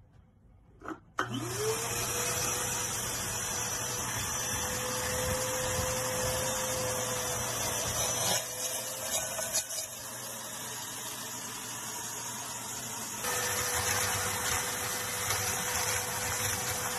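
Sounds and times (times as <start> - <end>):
vacuum cleaner whining: 1.2 - 16.9.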